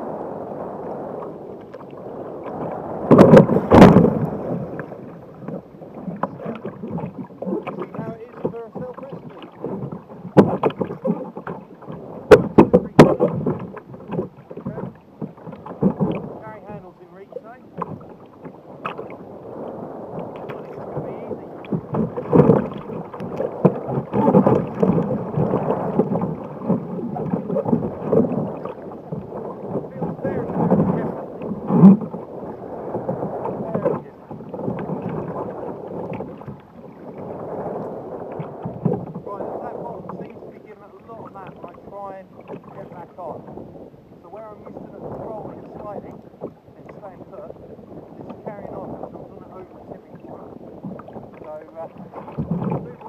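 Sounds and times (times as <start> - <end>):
water sloshing against kayak hull: 0.0 - 53.0
wind on microphone: 0.0 - 53.0.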